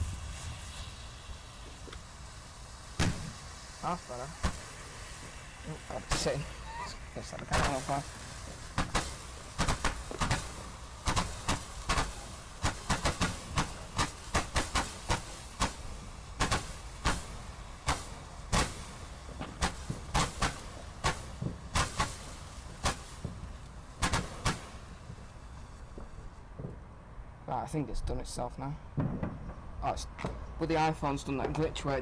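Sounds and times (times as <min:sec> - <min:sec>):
firework bangs and cracks: 0:00.0 - 0:27.0, 0:28.9 - 0:32.0.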